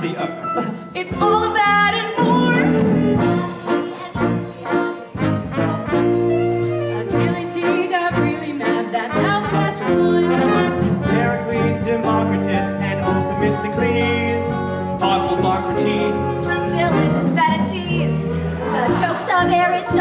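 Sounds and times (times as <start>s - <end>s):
pit band playing a show tune: 0.0s - 20.0s.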